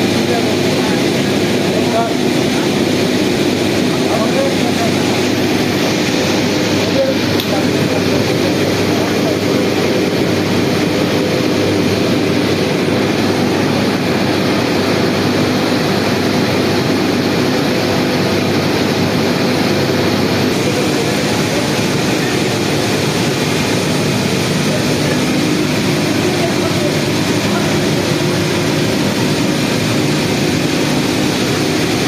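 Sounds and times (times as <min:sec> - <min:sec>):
heavy industrial machinery drone: 0:00.0 - 0:32.0.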